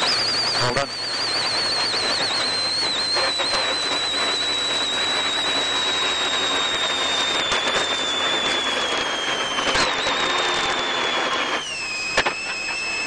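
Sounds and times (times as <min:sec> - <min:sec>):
high thin whine: 0:00.0 - 0:13.0.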